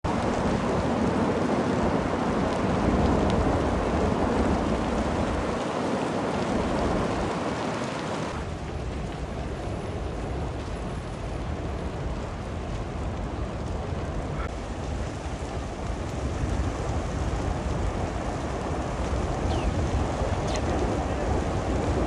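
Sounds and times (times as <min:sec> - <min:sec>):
forest fire roaring: 0:00.0 - 0:22.0.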